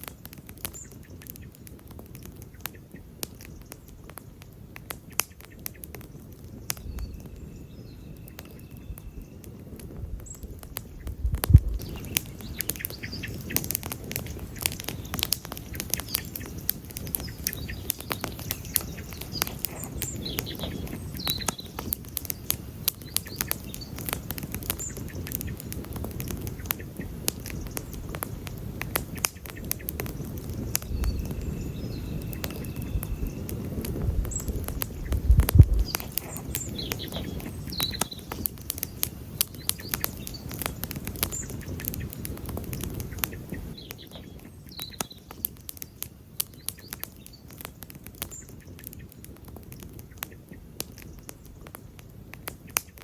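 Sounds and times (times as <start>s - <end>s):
campfire crackling and popping: 0.0s - 53.0s
low rush of flames: 0.0s - 53.0s.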